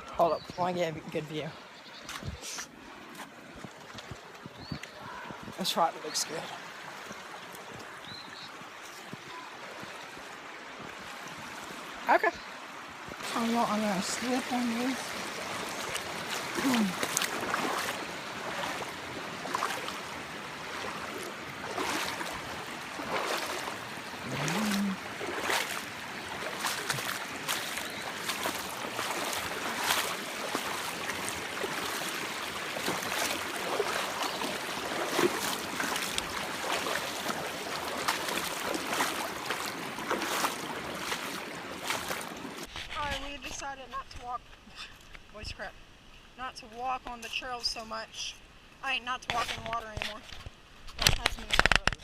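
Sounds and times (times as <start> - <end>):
water splashing: 0.0 - 44.4
rushing creek water: 0.0 - 52.0.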